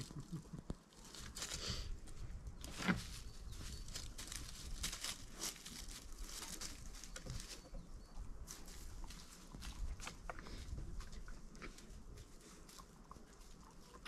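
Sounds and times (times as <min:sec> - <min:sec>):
rustling in wood-chip mulch: 0:00.0 - 0:14.0.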